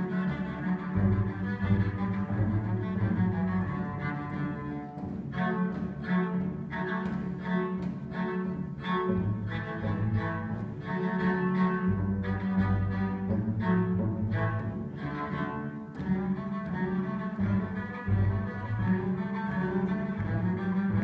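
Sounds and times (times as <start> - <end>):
cellos bowing: 0.0 - 21.0.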